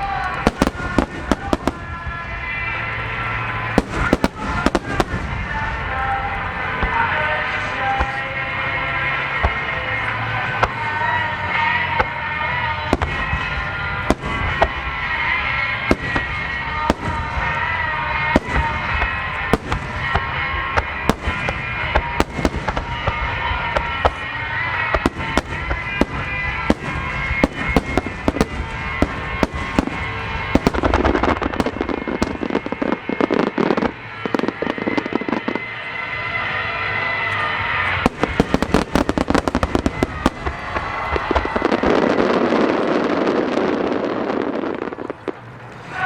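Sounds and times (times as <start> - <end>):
firework crackling: 0.0 - 46.0
music playing: 0.0 - 46.0.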